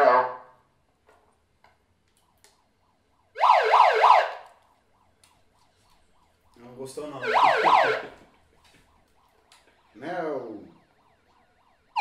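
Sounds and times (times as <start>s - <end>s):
megaphone siren wailing: 0.0s - 0.7s, 2.4s - 12.0s.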